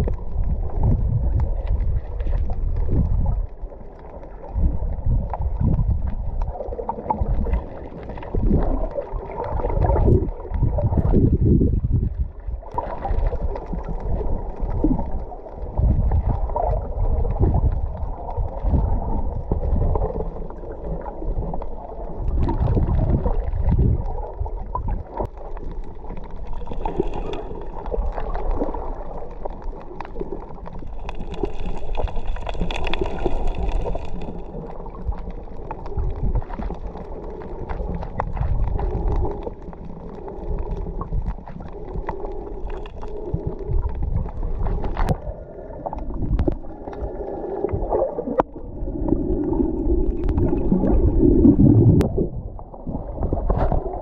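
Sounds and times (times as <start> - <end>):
muffled underwater water rushing: 0.0 - 54.0.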